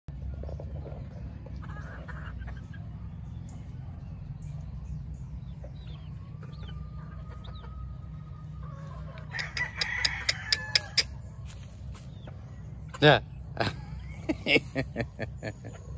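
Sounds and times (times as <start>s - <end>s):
chickens clucking softly: 0.1s - 15.9s.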